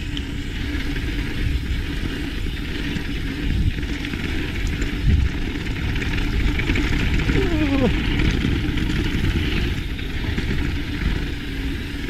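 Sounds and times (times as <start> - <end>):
bike tyres on gravel: 0.0 - 12.0
wind on microphone: 0.0 - 12.0.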